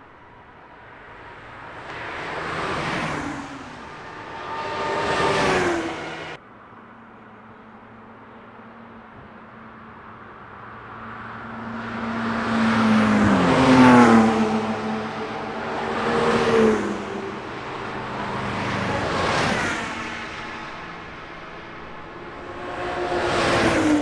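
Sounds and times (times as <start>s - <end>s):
cars driving past at speed: 0.2s - 24.0s.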